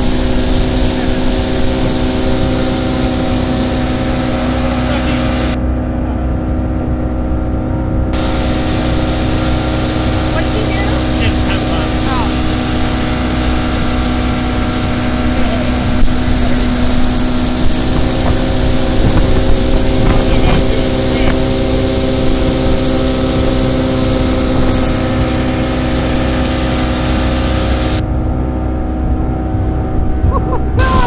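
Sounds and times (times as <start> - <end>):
motorboat engine running: 0.0 - 31.0
rush of wind and water: 0.0 - 31.0.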